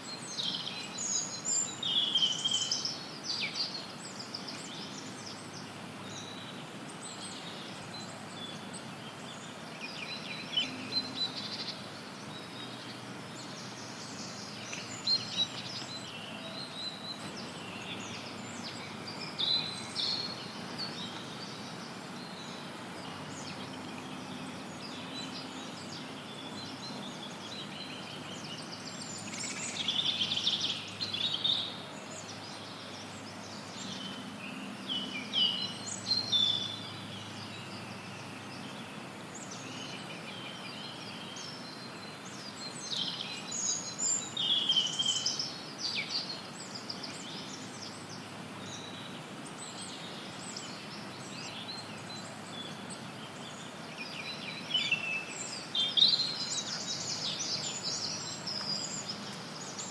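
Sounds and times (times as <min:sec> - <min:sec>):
birds singing and chirping: 0:00.0 - 0:59.9
white noise hiss: 0:00.0 - 0:59.9.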